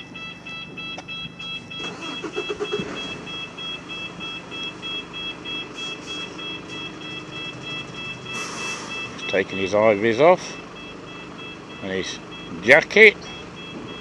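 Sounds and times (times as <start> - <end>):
heavy vehicle engine running: 0.0 - 14.0
rapid electronic warning beeps: 0.0 - 14.0.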